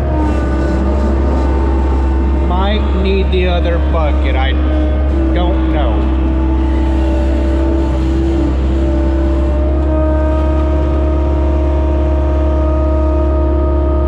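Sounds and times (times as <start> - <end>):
diesel engine running: 0.0 - 14.0
steady whine: 0.0 - 14.0.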